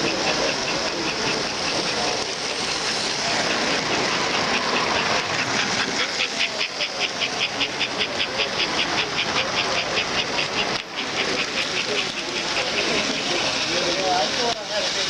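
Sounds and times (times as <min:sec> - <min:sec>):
model train clicking: 0:00.0 - 0:15.0
murmur of crowd: 0:00.0 - 0:15.0.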